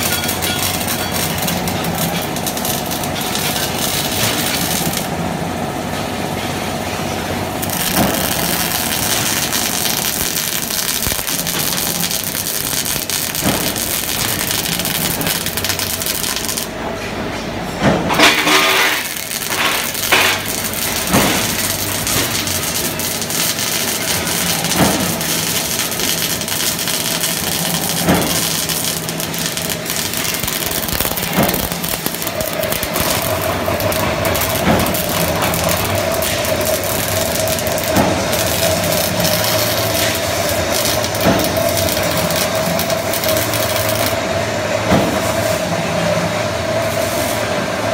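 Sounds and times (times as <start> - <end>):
welding arc hissing and popping: 0.0 - 5.8, 7.2 - 16.7, 18.1 - 44.2.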